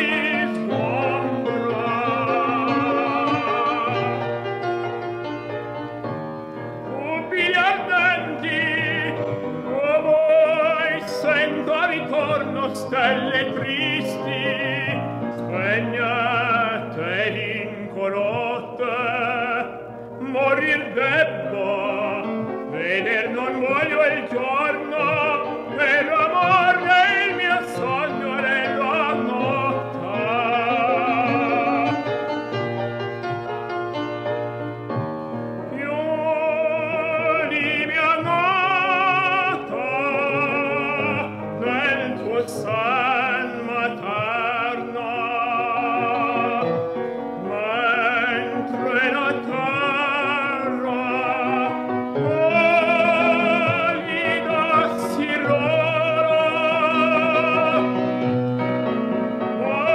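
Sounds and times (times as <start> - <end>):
operatic tenor singing: 0.0 - 59.9
piano accompaniment: 0.0 - 59.9.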